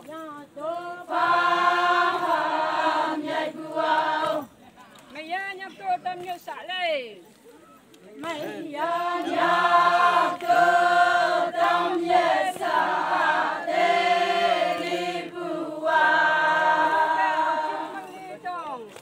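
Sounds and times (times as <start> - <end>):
group singing folk song: 0.0 - 4.6, 8.2 - 19.0.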